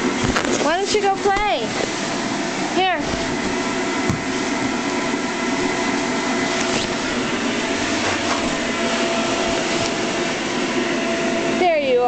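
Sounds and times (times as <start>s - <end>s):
electric blower fan whirring: 0.0s - 12.0s.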